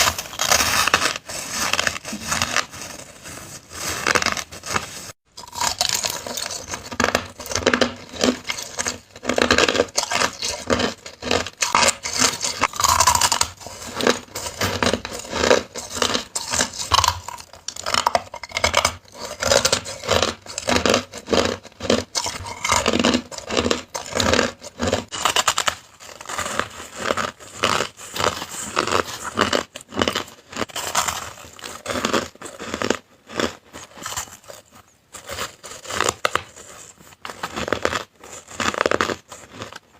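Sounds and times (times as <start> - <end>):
person chewing crushed ice: 0.0 - 39.9.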